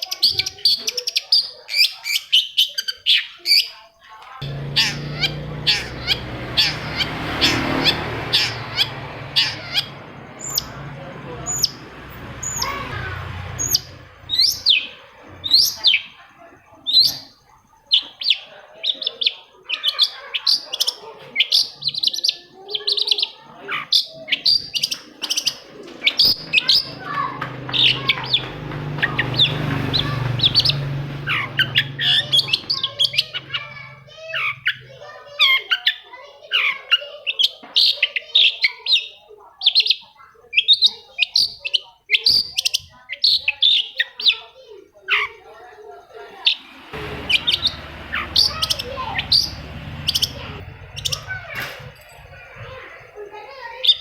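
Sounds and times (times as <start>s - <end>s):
bird chattering chirps: 4.4s - 54.0s.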